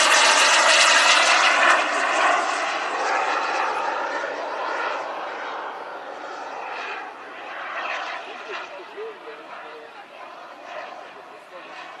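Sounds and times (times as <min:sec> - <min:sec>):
model jet turbine rush: 0:00.0 - 0:12.0.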